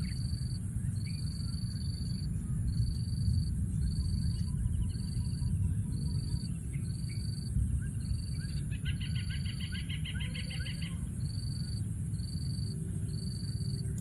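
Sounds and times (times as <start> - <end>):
rapid run of chirps: 0.0 - 14.0
steady low rumble: 0.0 - 14.0.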